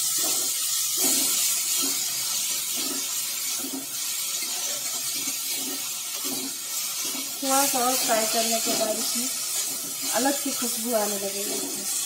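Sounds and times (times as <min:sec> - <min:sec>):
paste sizzling in hot oil: 0:00.0 - 0:12.0
spoon stirring and scraping: 0:00.0 - 0:12.0.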